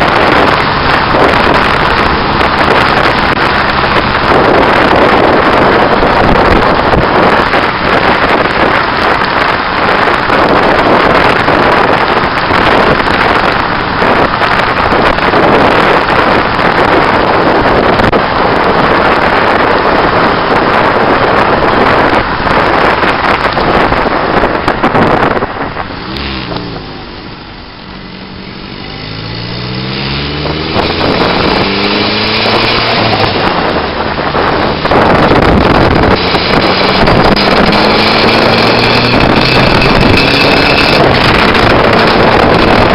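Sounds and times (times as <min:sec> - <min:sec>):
car engine accelerating: 0:00.0 - 0:42.9
road noise: 0:00.0 - 0:42.9
wind buffeting: 0:00.0 - 0:42.9.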